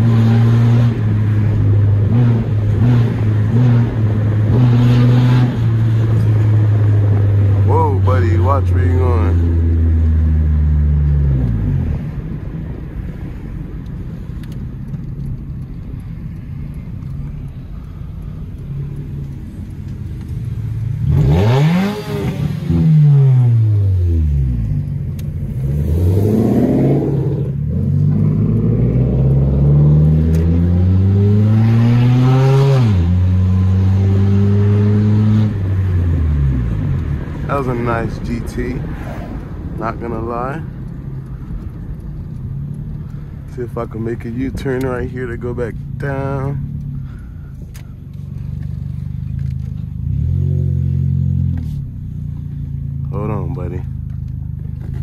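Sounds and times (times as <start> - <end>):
car engine accelerating through gears: 0.0 - 12.8, 14.4 - 55.0.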